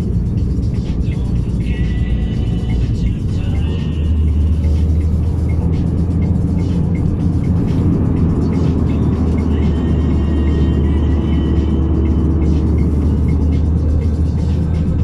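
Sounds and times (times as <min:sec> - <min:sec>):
music with ticking beat: 0:00.0 - 0:15.0
truck engine droning: 0:00.0 - 0:15.0.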